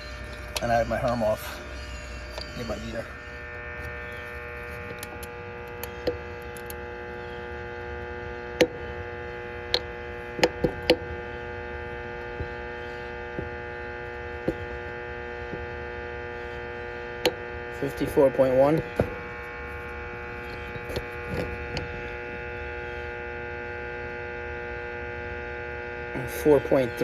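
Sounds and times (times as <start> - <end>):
sharp electrical clicks: 0.0 - 22.5
electrical mains hum: 0.0 - 27.0.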